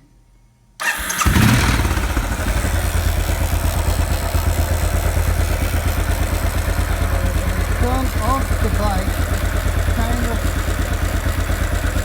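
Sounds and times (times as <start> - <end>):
motorcycle engine starting and idling: 0.8 - 12.0
odd engine noise: 0.8 - 12.0.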